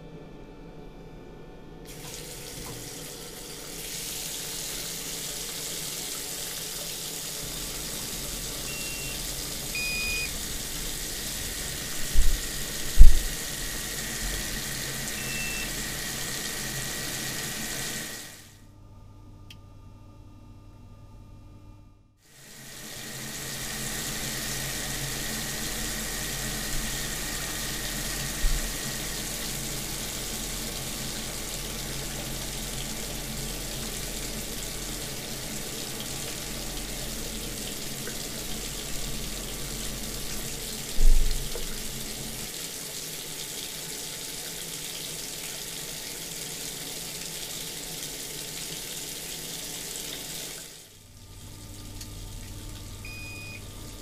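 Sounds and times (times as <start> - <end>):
water running from tap into sink: 1.9 - 18.4, 22.3 - 54.0.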